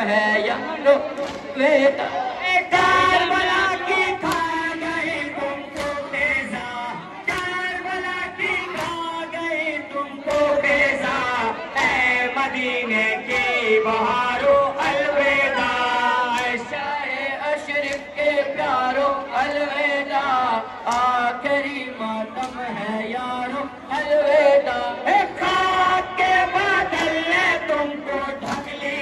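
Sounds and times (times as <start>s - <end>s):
chanting style song: 0.0s - 29.0s.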